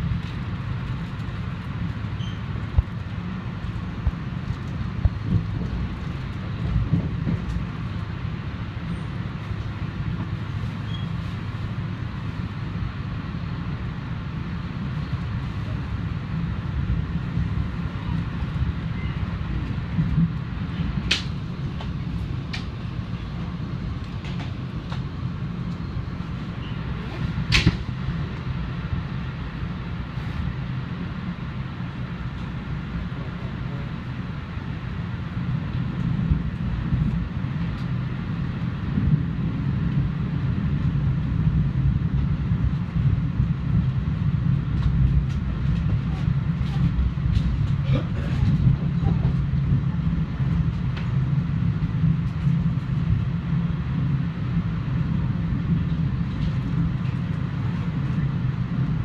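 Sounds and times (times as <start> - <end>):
sharp clicks of train: 0.0 - 13.0, 14.6 - 53.4, 55.6 - 59.0
train wheels rumbling on track: 0.0 - 59.0.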